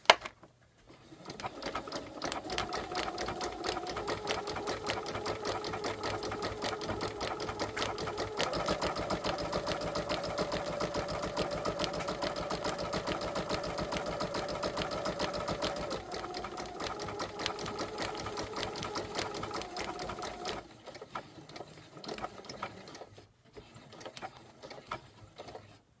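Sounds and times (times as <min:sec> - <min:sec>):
sewing machine stitching: 0:00.9 - 0:25.9.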